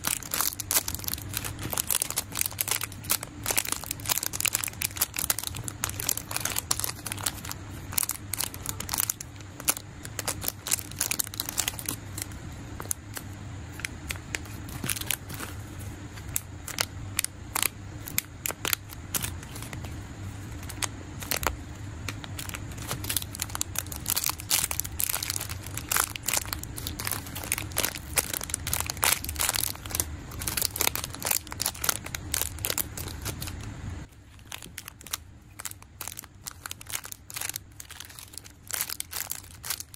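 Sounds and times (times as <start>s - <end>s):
plastic bags crinkling: 0.0s - 39.9s.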